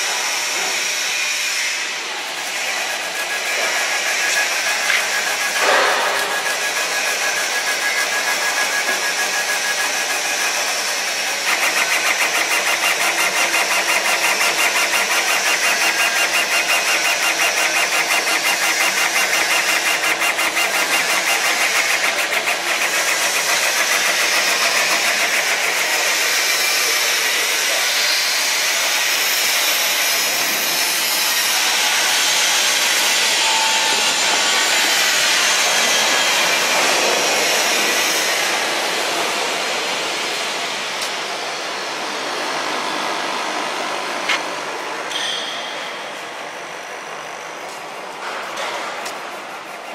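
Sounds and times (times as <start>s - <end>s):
laser cutter whir and hiss: 0.0s - 49.9s.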